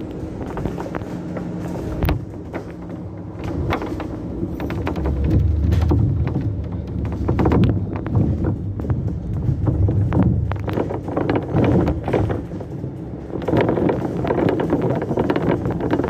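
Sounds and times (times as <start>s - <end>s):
bus engine drone: 0.0s - 16.0s
rattles and clicks of bus interior: 0.0s - 16.0s.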